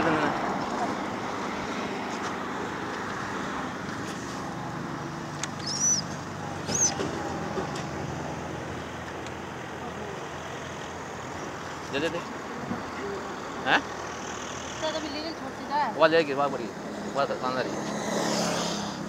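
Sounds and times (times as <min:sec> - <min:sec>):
motor vehicle hum: 0:00.0 - 0:19.0.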